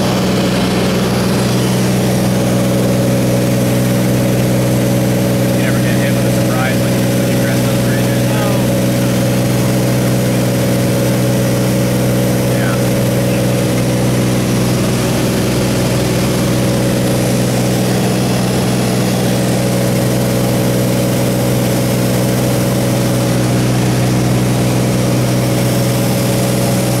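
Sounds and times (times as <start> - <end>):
plane engine humming: 0.0 - 27.0.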